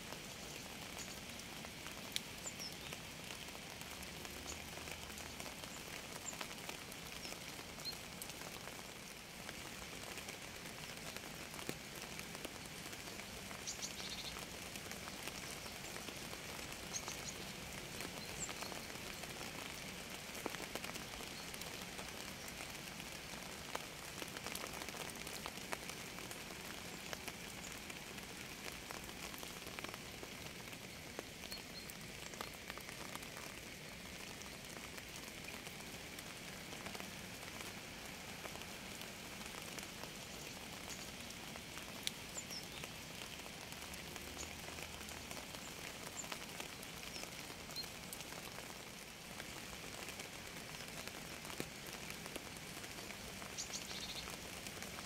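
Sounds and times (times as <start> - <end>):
steady rain on a surface: 0.0 - 55.0.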